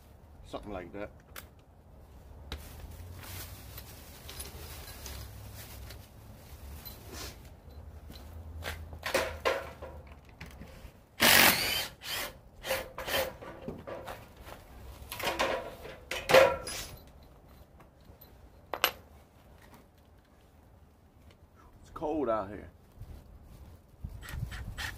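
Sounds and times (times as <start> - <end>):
rustles and knocks of handling tools: 0.0 - 11.1, 12.2 - 21.6.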